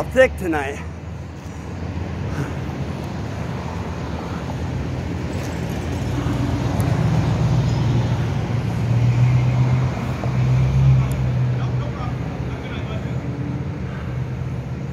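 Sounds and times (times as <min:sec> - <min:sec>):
road noise: 0:00.0 - 0:14.9
vehicle engine low hum: 0:00.0 - 0:14.9.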